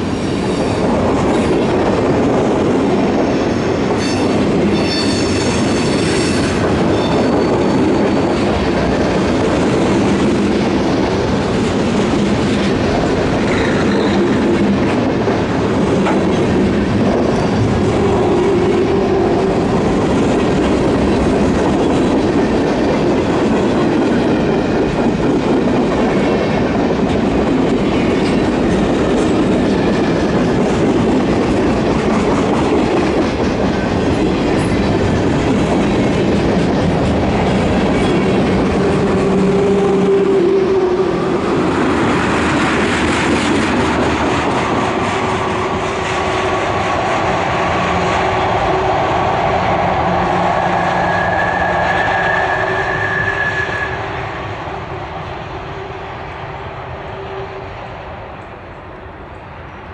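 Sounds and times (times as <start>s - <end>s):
clickety-clack of rail joints: 0.0s - 53.6s
train wheels rumbling on rails: 0.0s - 59.9s.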